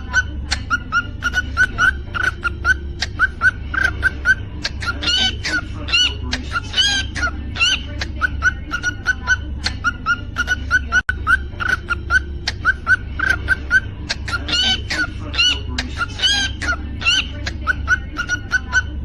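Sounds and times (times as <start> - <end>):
cockatiel whistling: 0.0 - 18.9
cockatiel chirping: 0.0 - 19.0
steady low hum: 0.0 - 19.0.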